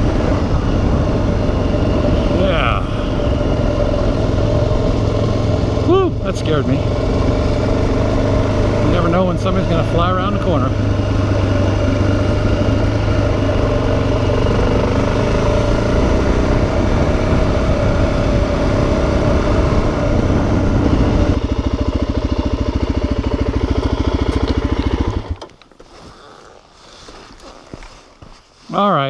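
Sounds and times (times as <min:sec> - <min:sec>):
motorcycle engine running: 0:00.0 - 0:26.3.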